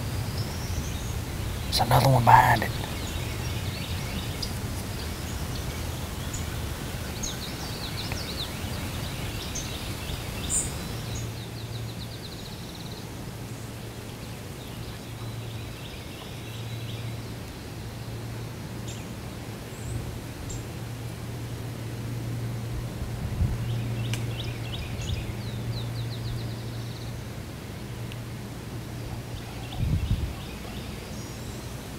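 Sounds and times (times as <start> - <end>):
songbirds chirping: 0.0 - 31.9.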